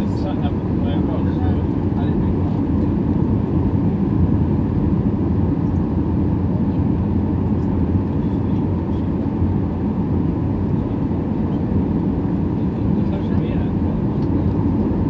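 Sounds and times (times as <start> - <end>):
airplane cabin engine roar: 0.0 - 15.0.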